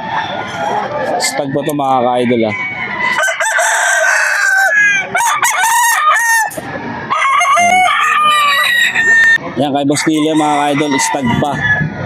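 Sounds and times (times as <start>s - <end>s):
roosters crowing: 0.0s - 12.0s.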